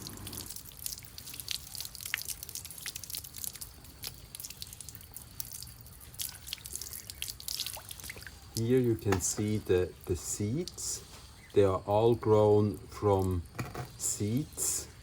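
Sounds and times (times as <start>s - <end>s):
water dripping: 0.0s - 14.9s.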